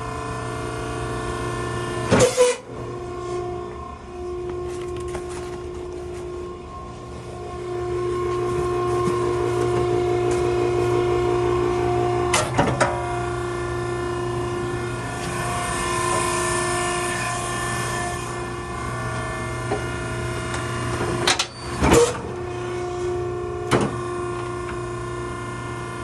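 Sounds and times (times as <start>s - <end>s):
hydraulic power unit humming: 0.0s - 26.0s.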